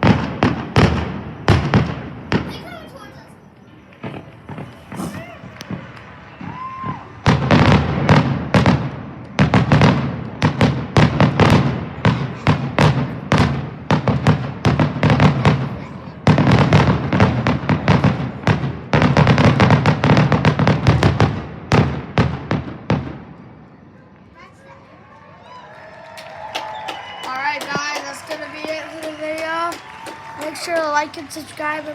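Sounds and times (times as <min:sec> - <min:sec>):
fireworks banging: 0:00.0 - 0:24.4, 0:26.2 - 0:31.9.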